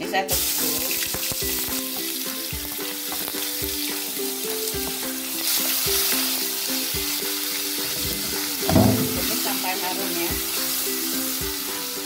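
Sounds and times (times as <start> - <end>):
paste sizzling in hot oil: 0.2 - 12.0
simple backing melody: 1.1 - 12.0.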